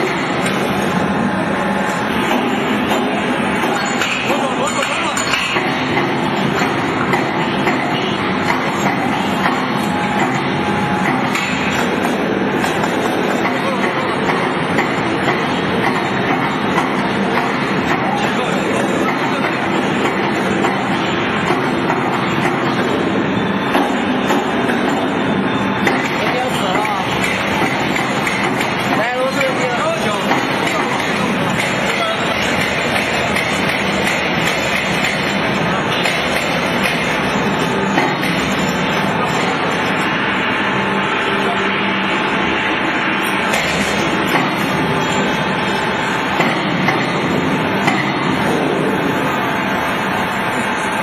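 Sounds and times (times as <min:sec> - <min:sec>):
heavy workshop machinery: 0:00.0 - 0:51.0.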